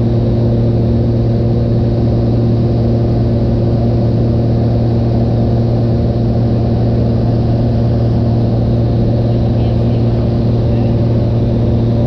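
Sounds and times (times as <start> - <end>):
plane engine droning in cabin: 0.0 - 12.0.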